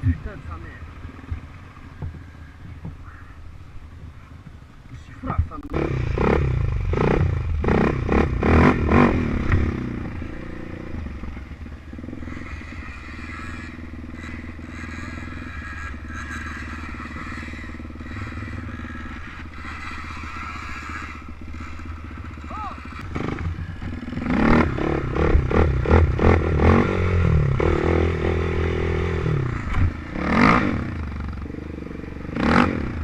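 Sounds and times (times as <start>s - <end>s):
off-road engines running: 0.0s - 33.0s.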